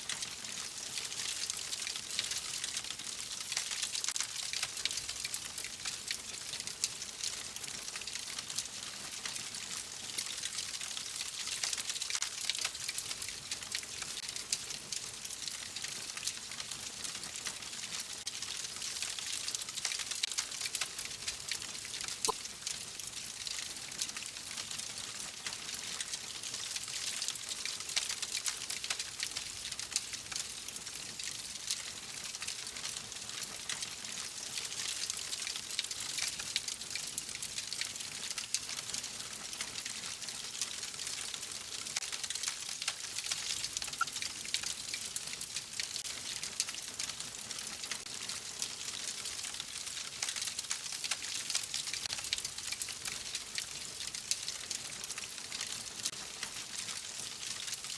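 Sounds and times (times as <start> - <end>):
wood fire hissing and crackling: 0.0 - 57.9.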